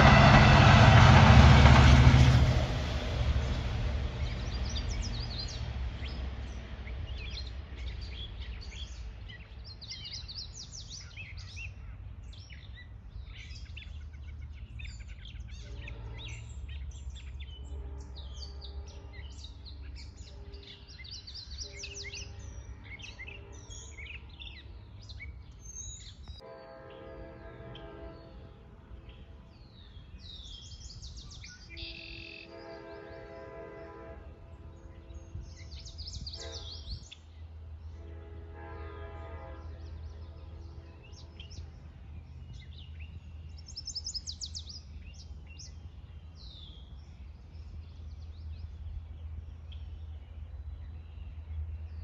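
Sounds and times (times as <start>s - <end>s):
songbirds chirping: 0.0s - 52.0s
train rumble: 0.0s - 52.0s.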